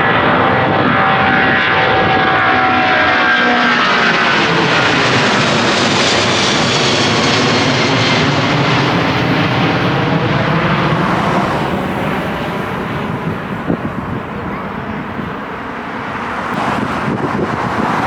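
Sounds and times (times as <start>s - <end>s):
jet airliner roaring overhead: 0.0s - 18.0s.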